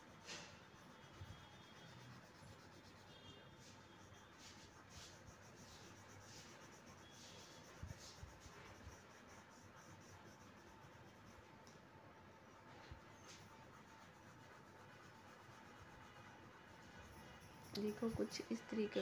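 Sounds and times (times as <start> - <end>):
pencil scratching on paper: 0.0 - 11.7, 12.6 - 18.6.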